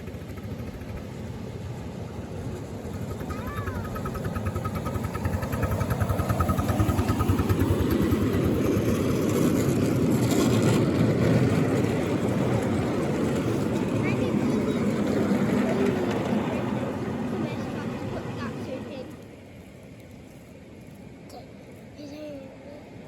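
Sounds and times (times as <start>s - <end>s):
miniature locomotive pulsing: 0.0s - 19.7s.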